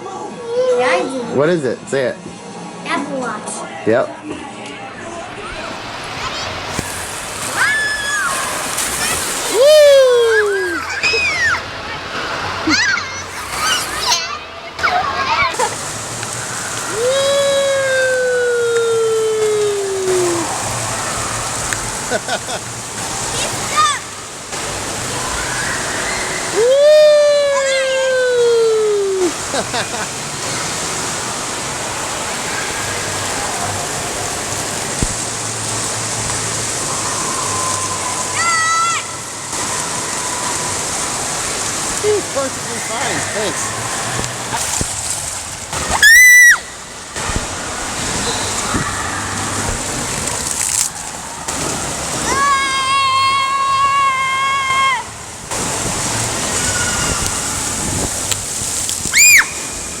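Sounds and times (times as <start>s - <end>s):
rush of falling water: 5.1s - 60.0s.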